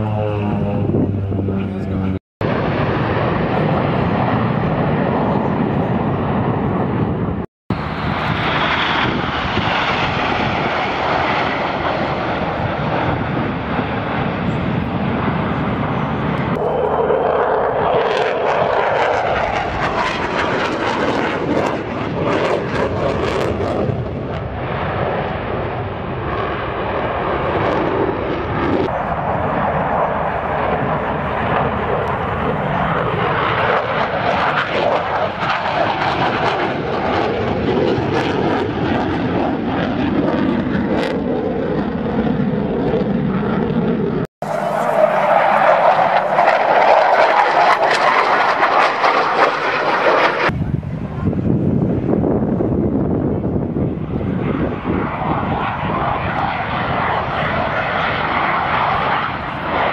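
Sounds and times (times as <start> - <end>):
jet engines flying overhead: 0.0 - 59.9.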